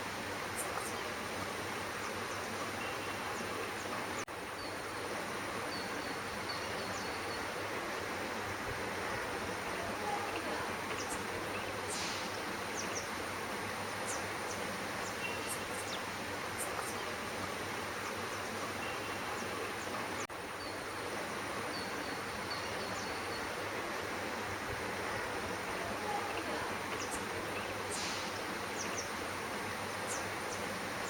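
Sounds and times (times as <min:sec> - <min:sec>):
even hiss: 0:00.0 - 0:31.0.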